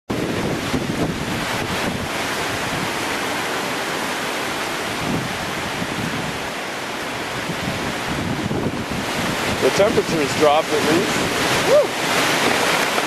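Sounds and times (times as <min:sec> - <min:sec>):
strong wind rushing: 0:00.1 - 0:13.0
wind buffeting microphone: 0:00.1 - 0:13.0.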